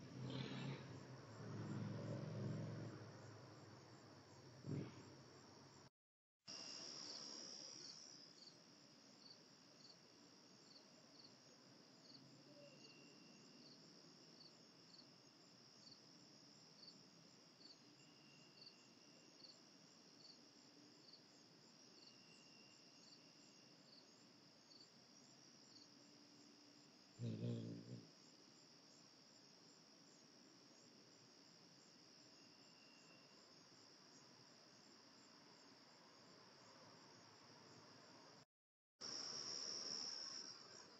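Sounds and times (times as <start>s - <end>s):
insects chirping: 6.5s - 38.4s, 39.0s - 40.9s.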